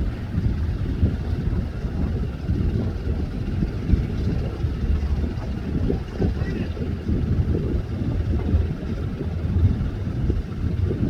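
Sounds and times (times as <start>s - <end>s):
boat engines rumbling: 0.0s - 11.0s
wind buffeting microphone: 0.0s - 11.0s.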